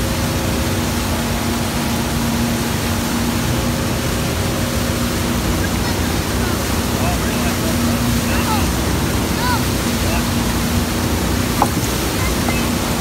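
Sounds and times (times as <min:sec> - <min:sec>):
boat engine droning: 0:00.0 - 0:13.0
churning wake water: 0:00.0 - 0:13.0
wind: 0:00.0 - 0:13.0.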